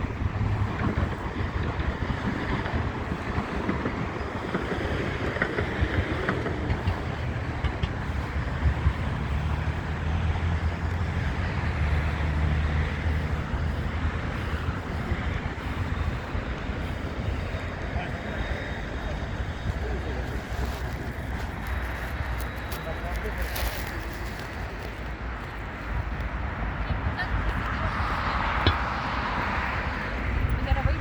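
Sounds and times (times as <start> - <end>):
heavy vehicle engine hum: 0.0 - 31.0
passing traffic: 0.0 - 31.0.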